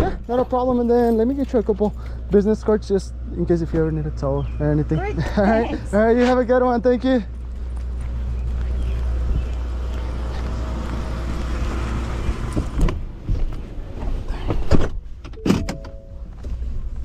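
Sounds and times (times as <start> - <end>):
vehicle engine idling: 0.0 - 14.5.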